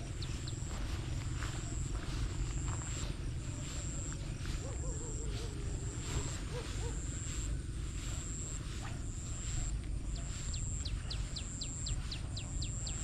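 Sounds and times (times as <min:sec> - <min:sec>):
bird chirping: 0:00.0 - 0:01.1, 0:02.5 - 0:13.0
low steady rumble: 0:00.0 - 0:13.0.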